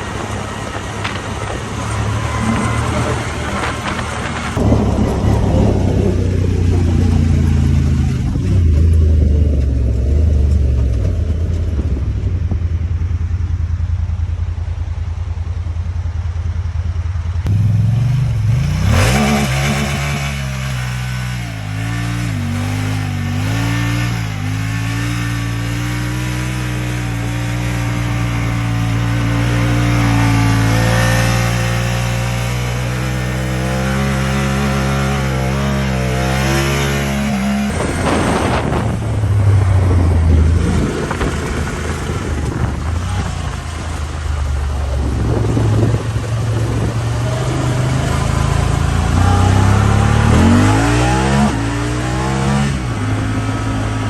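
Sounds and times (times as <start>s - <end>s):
engine revving under load: 0.0s - 13.4s, 17.4s - 54.0s.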